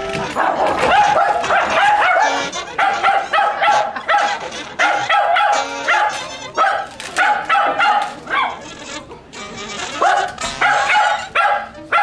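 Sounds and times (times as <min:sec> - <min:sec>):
small dogs yipping: 0:00.2 - 0:08.7, 0:09.8 - 0:12.0.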